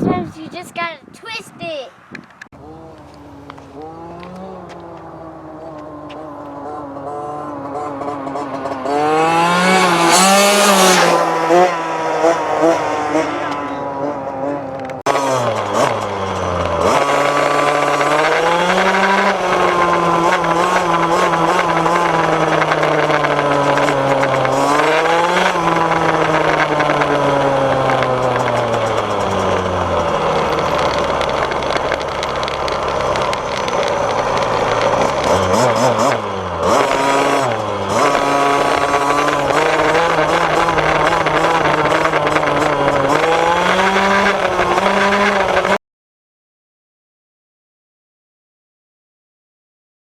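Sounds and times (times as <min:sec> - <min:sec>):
dirt bike engine revving: 0:02.6 - 0:45.8.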